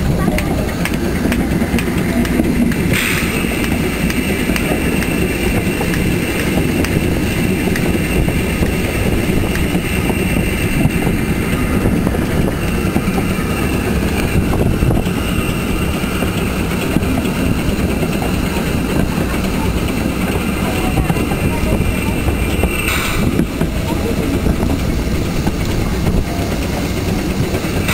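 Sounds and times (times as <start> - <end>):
steam train rumbling on track: 0.0 - 27.9.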